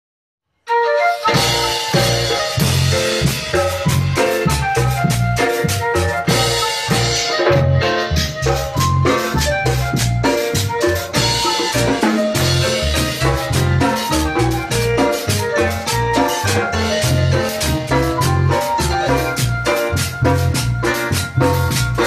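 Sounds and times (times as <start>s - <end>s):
electronic keyboard notes: 0.7s - 22.0s
drum kit beat: 0.8s - 22.0s.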